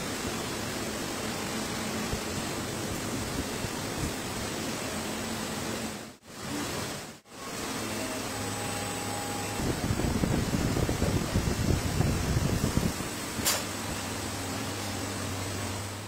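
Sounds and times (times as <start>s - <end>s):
fan-like air hum: 0.0s - 16.0s.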